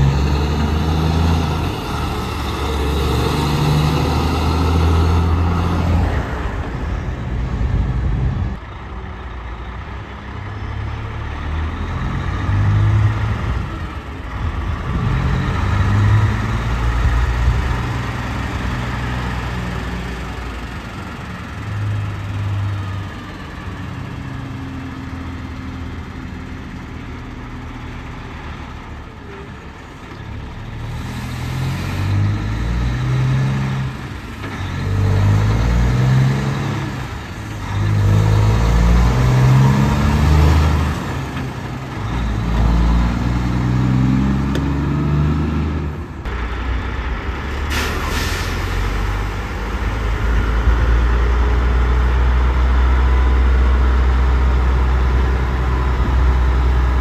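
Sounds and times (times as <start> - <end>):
heavy trucks passing: 0.0 - 57.0.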